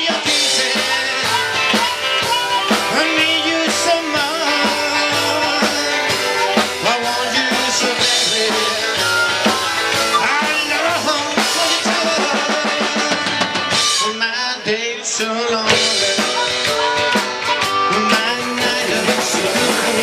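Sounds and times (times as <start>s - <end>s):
drum kit steady beat: 0.0s - 20.0s.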